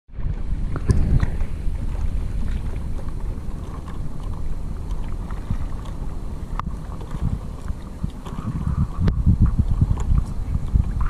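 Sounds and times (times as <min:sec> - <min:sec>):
wind rumbling on microphone: 0:00.1 - 0:11.0
water splashes and drips: 0:00.3 - 0:11.0.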